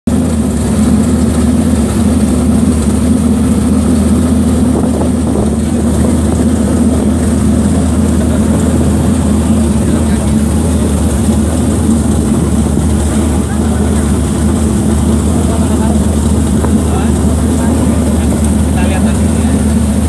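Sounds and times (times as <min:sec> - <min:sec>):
car engine idling: 0:00.1 - 0:20.0.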